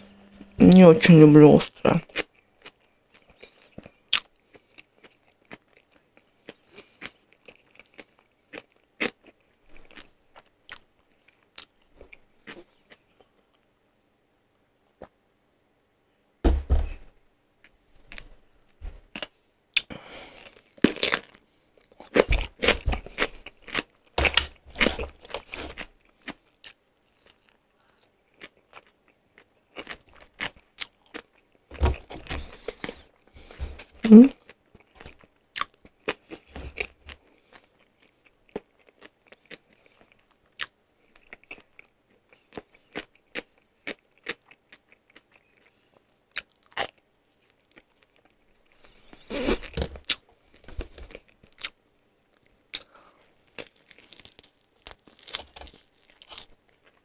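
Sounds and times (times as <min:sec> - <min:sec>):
chewing crispy fried chicken: 0:02.0 - 0:13.7, 0:19.1 - 0:57.0.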